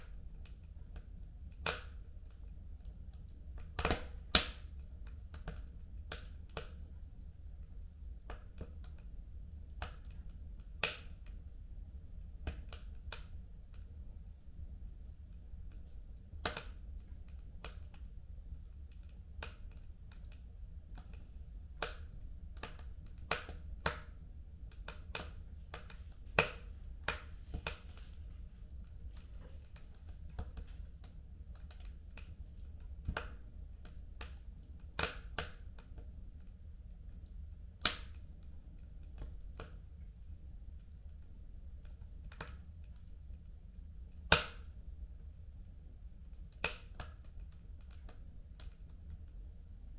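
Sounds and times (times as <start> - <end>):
fire crackling and popping: 0.0 - 49.9
low steady rumble of fire: 0.0 - 49.9.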